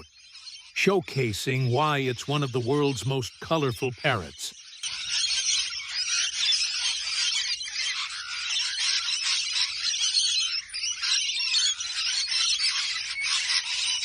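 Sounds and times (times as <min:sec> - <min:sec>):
lorikeets chattering and screeching: 0:00.0 - 0:14.0.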